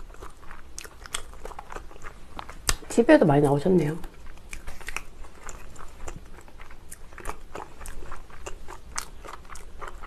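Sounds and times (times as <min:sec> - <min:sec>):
person chewing food: 0:00.0 - 0:02.9, 0:04.0 - 0:10.0.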